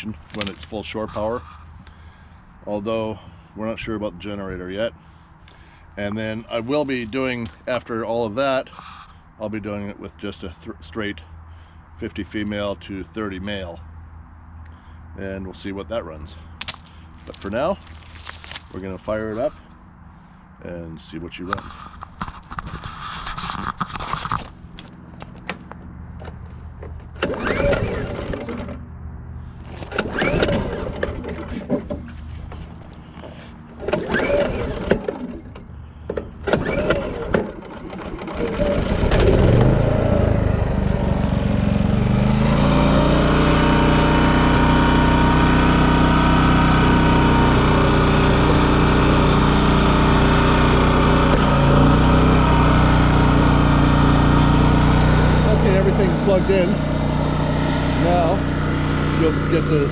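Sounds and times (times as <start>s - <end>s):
generator starting attempts: 0.0s - 10.6s, 15.9s - 59.9s
generator engine running: 0.0s - 10.7s, 11.4s - 59.9s.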